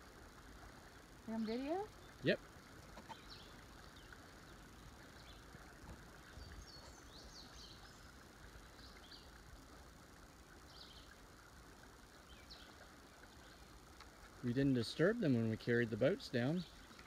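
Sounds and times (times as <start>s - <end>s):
faint outdoor ambient hiss: 0.0s - 17.0s
songbirds chirping: 0.1s - 17.0s.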